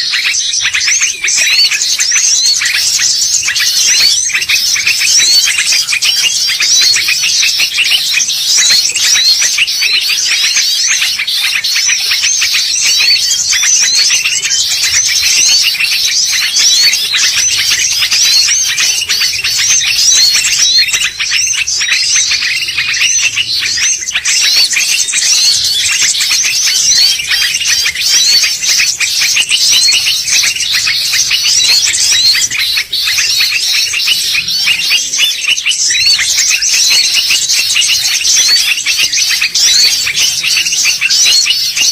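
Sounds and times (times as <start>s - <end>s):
bird rapid high chirps: 0.0s - 41.9s.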